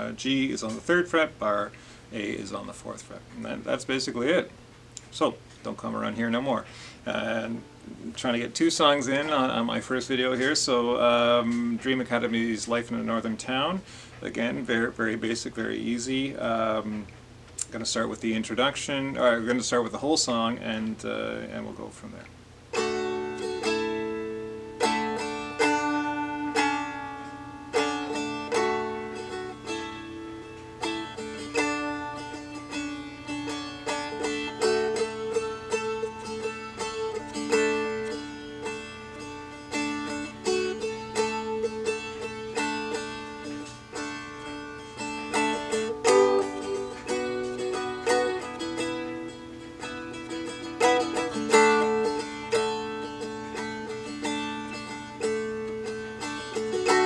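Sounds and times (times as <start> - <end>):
dulcimer strummed chords: 0.0 - 4.4, 5.2 - 16.9, 22.7 - 57.0.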